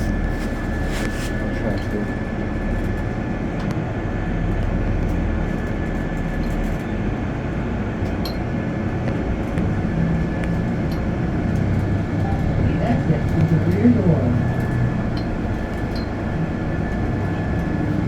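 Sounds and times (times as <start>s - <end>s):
bus engine and road rumble: 0.0s - 18.0s
faint constant whine: 0.0s - 18.0s.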